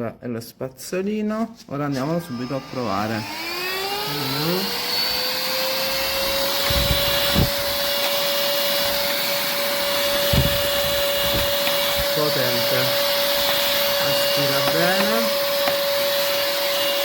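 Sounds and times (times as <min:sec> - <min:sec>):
handheld vacuum cleaner whine: 0:01.9 - 0:17.0.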